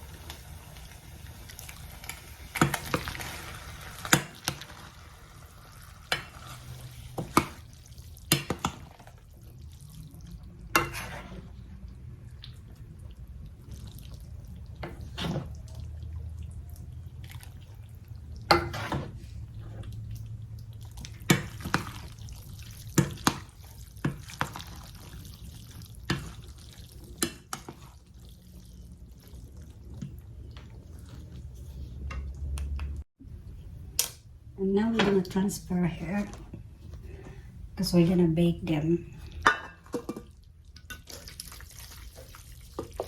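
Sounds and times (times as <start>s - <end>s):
spoon stirring thick chili: 1.3s - 33.0s, 39.2s - 43.0s.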